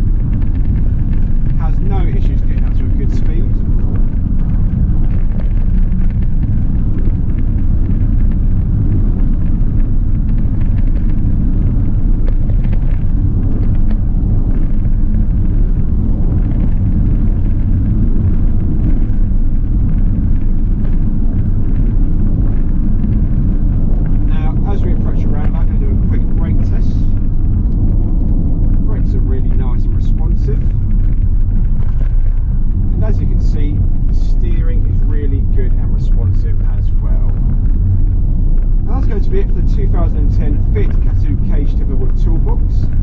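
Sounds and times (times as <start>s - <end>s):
engine and road rumble: 0.0s - 43.0s.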